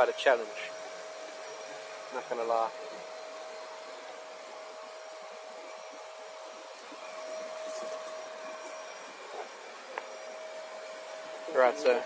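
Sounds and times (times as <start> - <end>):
vacuum whine and hiss: 0.0 - 12.0.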